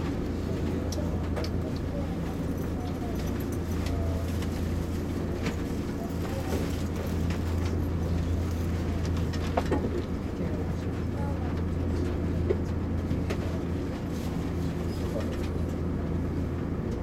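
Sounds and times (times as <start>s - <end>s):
train interior low hum: 0.0s - 17.0s.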